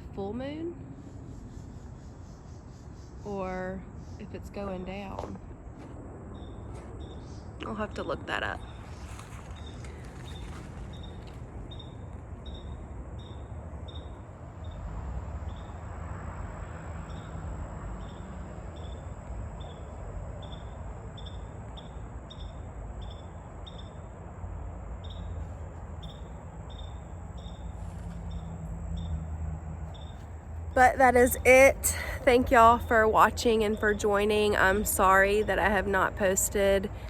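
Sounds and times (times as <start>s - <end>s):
low rumble of traffic: 0.0s - 37.0s
cricket chirping: 0.6s - 4.8s, 6.3s - 37.0s
vehicle passing: 3.9s - 37.0s.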